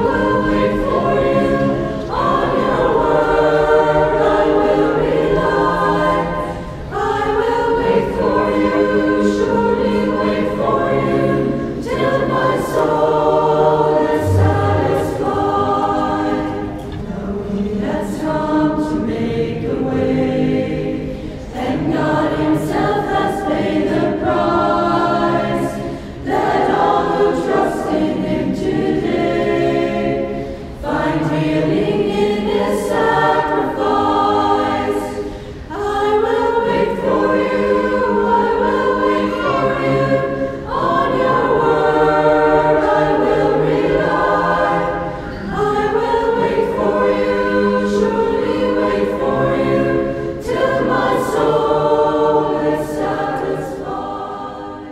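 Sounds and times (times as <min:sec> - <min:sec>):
choir singing: 0:00.0 - 0:54.9.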